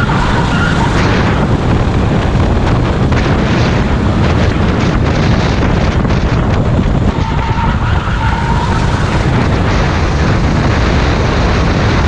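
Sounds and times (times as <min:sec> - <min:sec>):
kart engine running: 0:00.0 - 0:12.0
wind rumble on microphone: 0:00.0 - 0:12.0.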